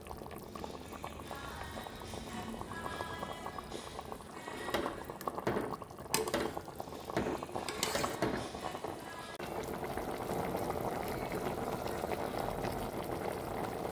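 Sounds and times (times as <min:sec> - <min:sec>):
curry bubbling in a pot: 0:00.0 - 0:13.9.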